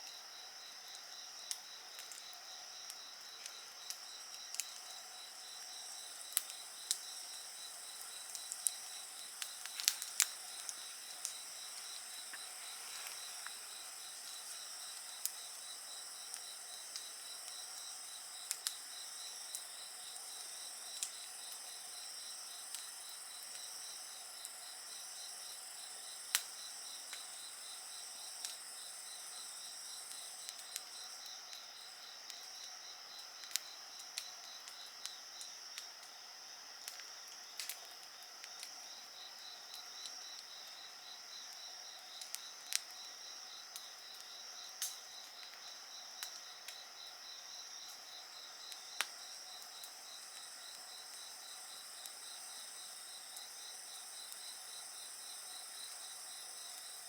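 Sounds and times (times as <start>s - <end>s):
insects trilling: 0.0s - 57.0s
wood fire crackling and popping: 0.9s - 36.2s, 36.8s - 43.0s, 43.6s - 47.2s, 47.8s - 55.1s.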